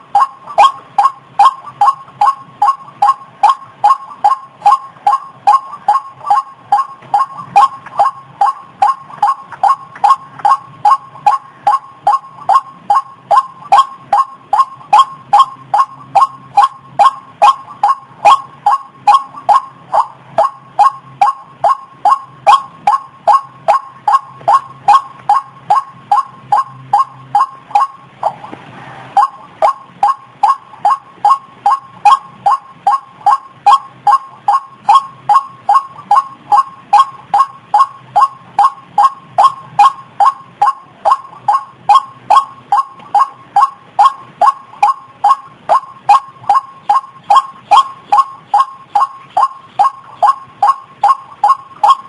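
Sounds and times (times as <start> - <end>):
bird calling a monotonous note: 0.0 - 52.0.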